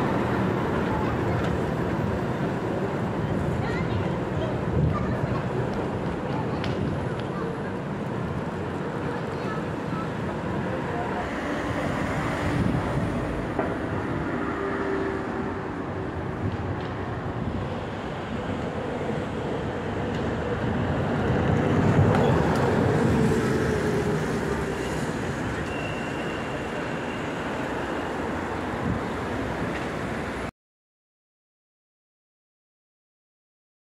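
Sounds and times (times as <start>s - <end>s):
street traffic hum: 0.0s - 30.5s.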